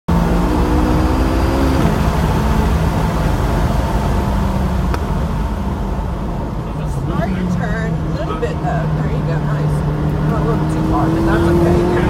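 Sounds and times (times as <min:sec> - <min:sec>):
car engine at full throttle: 0:00.1 - 0:12.0
road and wind noise: 0:00.1 - 0:12.0.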